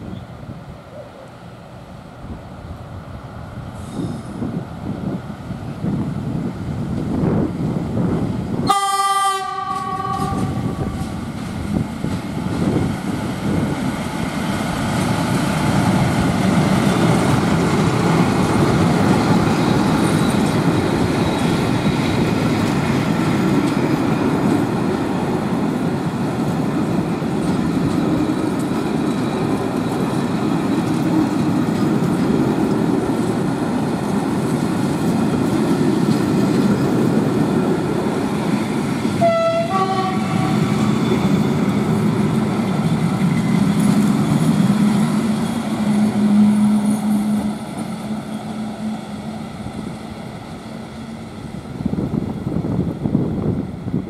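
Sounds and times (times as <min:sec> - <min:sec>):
diesel locomotive engine: 0:00.0 - 0:54.0
coaches rumbling and wheel clatter: 0:09.7 - 0:54.0.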